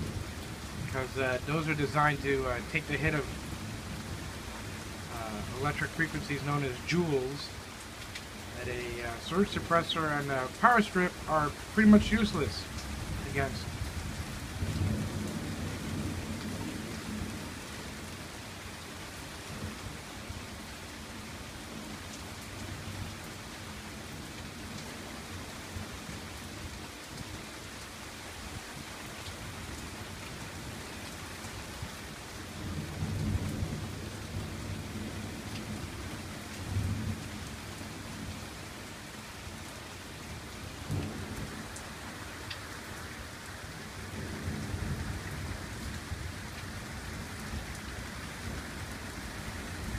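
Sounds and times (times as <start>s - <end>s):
rain hissing: 0.0s - 49.9s.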